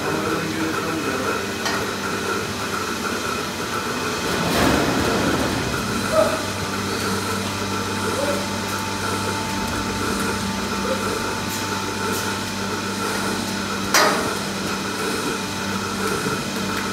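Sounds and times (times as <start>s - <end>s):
milking machinery humming: 0.0s - 16.9s.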